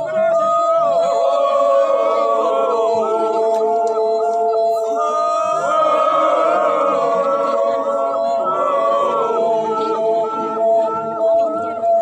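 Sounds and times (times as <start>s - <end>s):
group chanting: 0.0s - 11.7s
rapid repeating high note: 0.7s - 11.6s.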